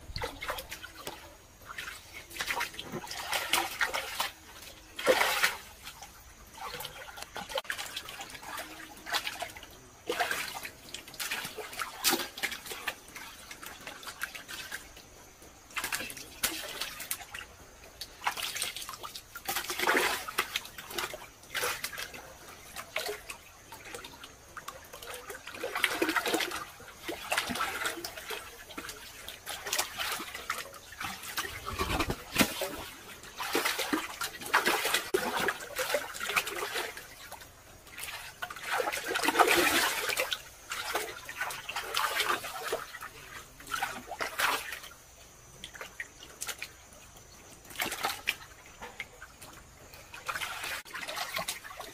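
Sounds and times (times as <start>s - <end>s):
muddy water sloshing and splashing: 0.0s - 51.9s.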